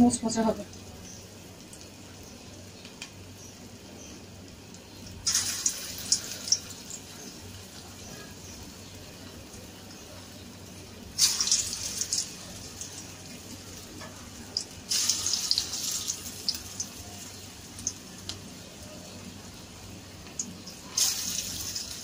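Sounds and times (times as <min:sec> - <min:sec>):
fritters deep-frying in oil: 0:00.0 - 0:22.0.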